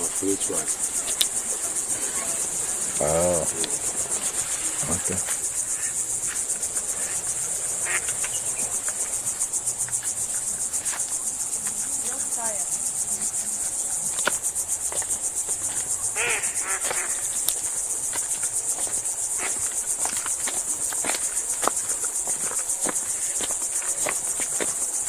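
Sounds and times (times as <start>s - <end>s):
forest insects trilling: 0.0s - 25.0s.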